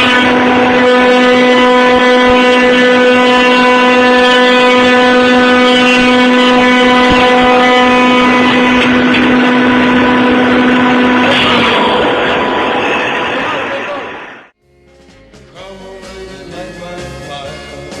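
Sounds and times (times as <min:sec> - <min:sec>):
router spindle whine: 0:00.0 - 0:14.5.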